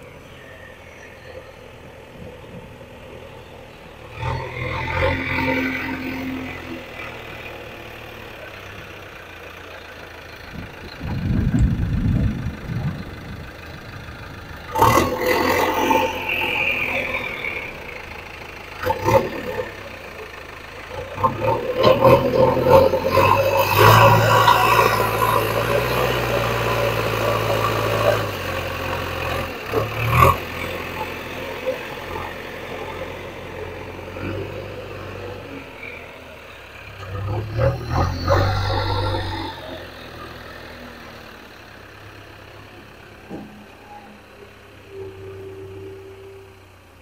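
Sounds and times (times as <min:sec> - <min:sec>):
diesel engine revving: 0:00.0 - 0:47.0.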